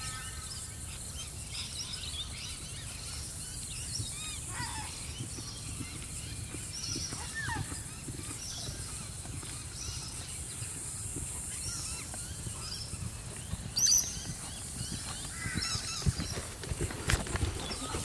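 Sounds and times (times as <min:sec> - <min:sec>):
birds chirping: 0:00.0 - 0:18.0
horse hooves on sand: 0:02.4 - 0:18.0.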